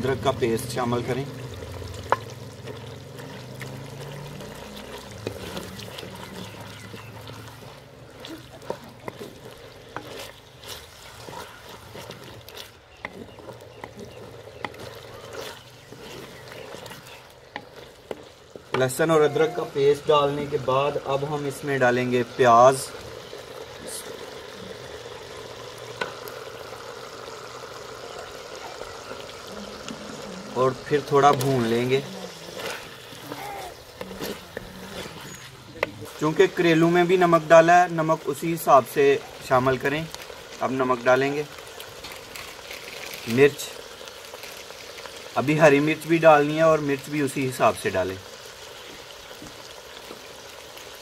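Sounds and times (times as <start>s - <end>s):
chicken and onions sizzling: 0.0s - 51.0s
food frying hiss: 0.0s - 51.0s.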